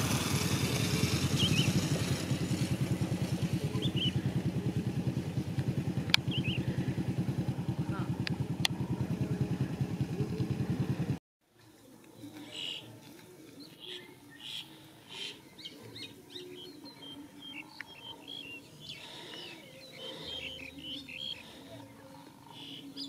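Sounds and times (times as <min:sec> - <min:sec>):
small birds chirping: 0:00.2 - 0:08.1, 0:11.7 - 0:23.0.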